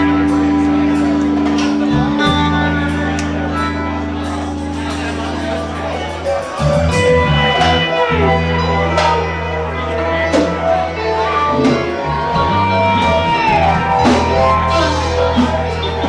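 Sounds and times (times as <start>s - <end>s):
bass line: 0.0s - 16.0s
electric guitars bending notes: 0.0s - 16.0s.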